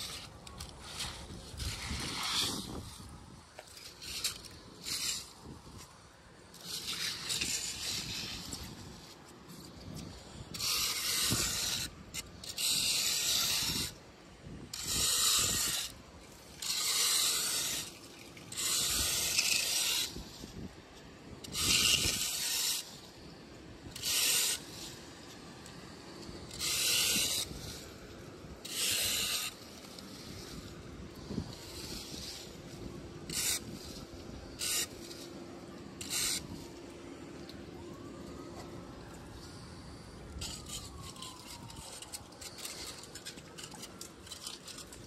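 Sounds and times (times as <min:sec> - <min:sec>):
hand rake scraping leaves: 0:00.0 - 0:38.8, 0:39.4 - 0:45.0.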